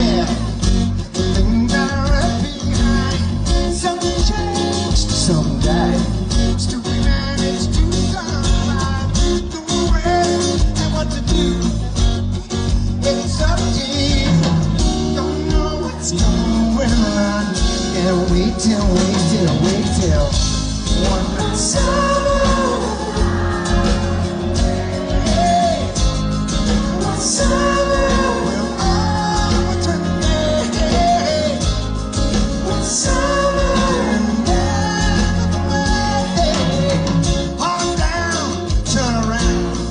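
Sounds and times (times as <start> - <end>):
person singing: 0.0 - 11.6, 13.0 - 39.9
rock band playing: 0.0 - 39.9.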